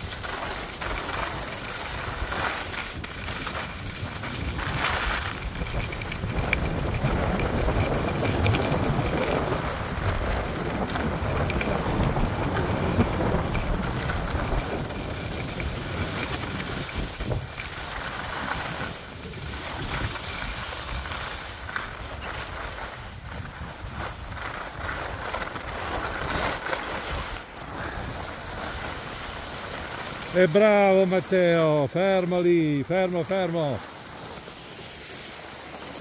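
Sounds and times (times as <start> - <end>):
skis scraping over snow: 0.0 - 36.0
wind rushing over microphone: 1.9 - 31.0.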